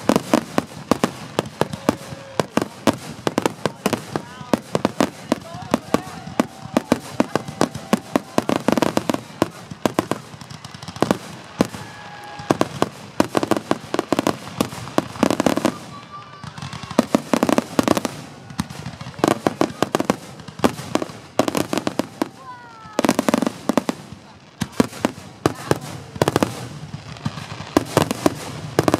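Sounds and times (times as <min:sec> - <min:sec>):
rapid firework pops: 0:00.0 - 0:28.9.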